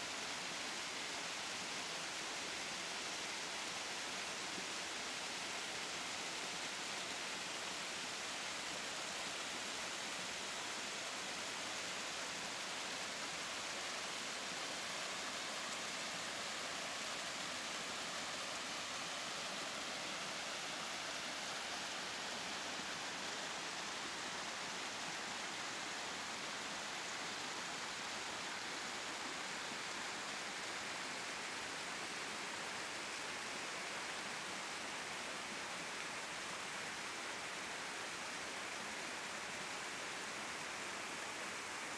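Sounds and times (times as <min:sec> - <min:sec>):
stream running over rocks: 0:00.0 - 0:41.9.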